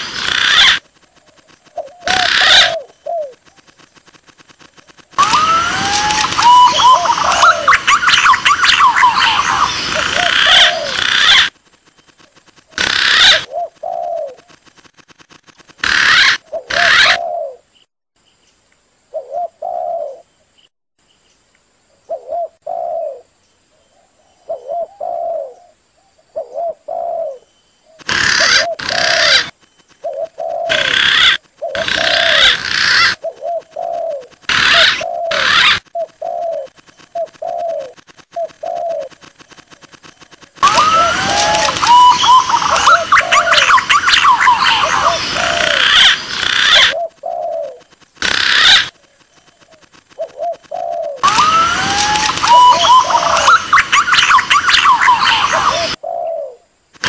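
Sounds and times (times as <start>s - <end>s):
dove cooing: 0.0s - 3.8s, 4.7s - 11.5s, 12.8s - 14.6s, 15.8s - 17.6s, 19.1s - 20.2s, 22.1s - 23.3s, 24.4s - 56.6s
pigeon calls: 0.0s - 11.6s, 12.2s - 17.6s, 28.0s - 57.0s.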